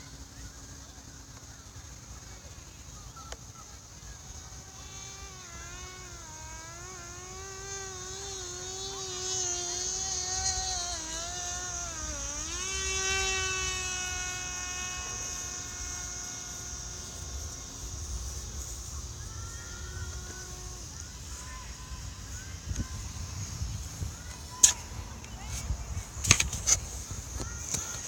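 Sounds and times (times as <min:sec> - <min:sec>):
drone motor and propeller whining: 0:03.4 - 0:28.0.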